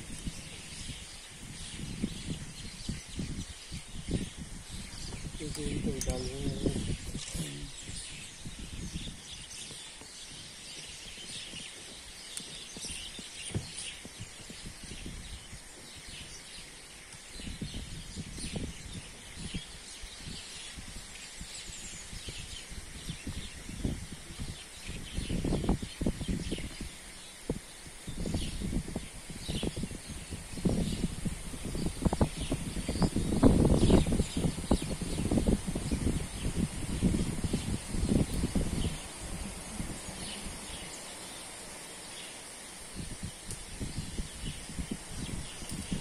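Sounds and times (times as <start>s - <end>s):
low crackles and rustles: 0.0s - 46.0s
small birds chirping: 0.0s - 46.0s.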